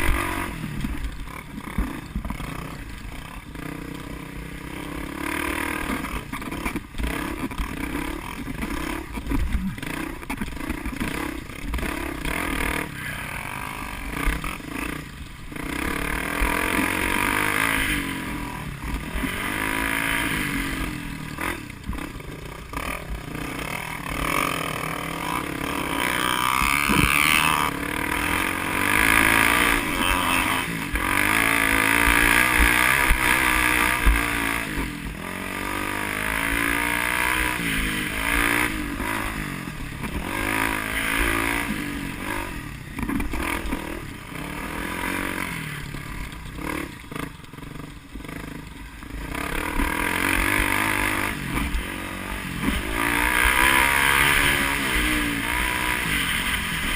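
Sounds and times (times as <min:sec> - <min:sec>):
road and wind noise: 0:00.0 - 0:56.9
vehicle engine revving: 0:00.0 - 0:56.9.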